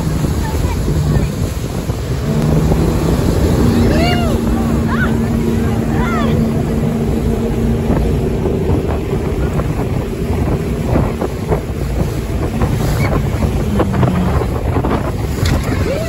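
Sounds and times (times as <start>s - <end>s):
motorboat engine running: 0.0s - 16.0s
rushing water and spray: 0.0s - 16.0s
short splashes: 0.0s - 16.0s
wind buffeting microphone: 0.0s - 16.0s.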